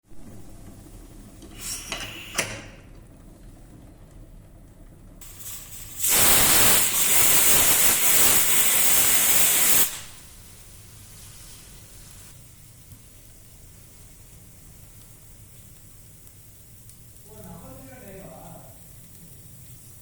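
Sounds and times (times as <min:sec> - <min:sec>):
pressure cooker venting steam: 0:00.0 - 0:20.0.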